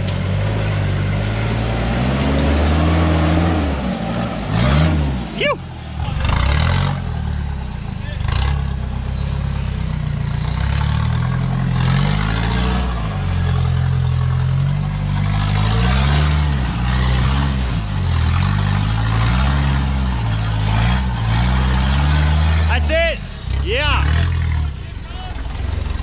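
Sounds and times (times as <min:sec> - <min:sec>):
truck engine revving under load: 0:00.0 - 0:26.0.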